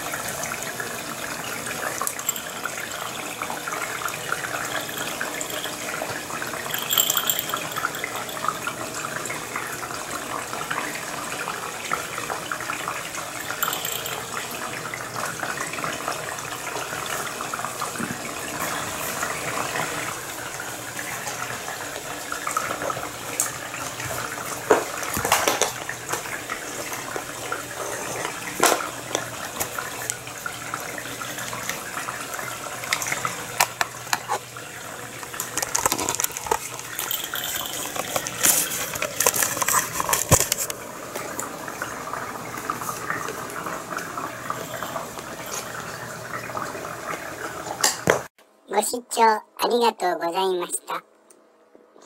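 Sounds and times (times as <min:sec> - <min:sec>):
running water rushing: 0:00.0 - 0:48.3.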